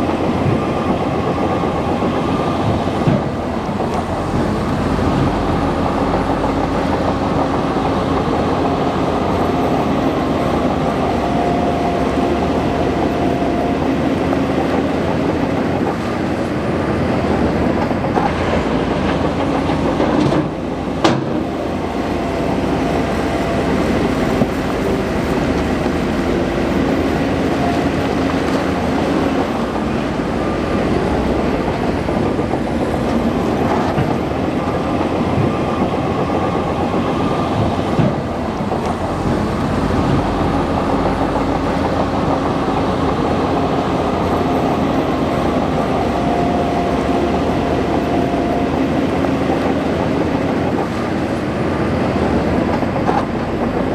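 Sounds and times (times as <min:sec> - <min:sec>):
bulldozer diesel engine running: 0:00.0 - 0:53.9
clatter of bulldozer tracks: 0:00.0 - 0:53.9.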